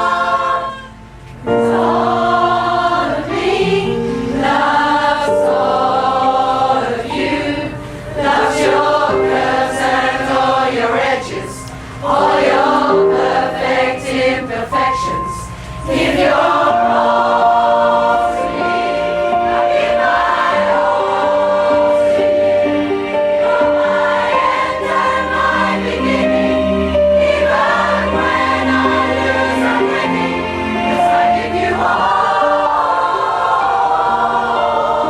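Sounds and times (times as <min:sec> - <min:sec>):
choir singing in harmony: 0:00.0 - 0:35.0.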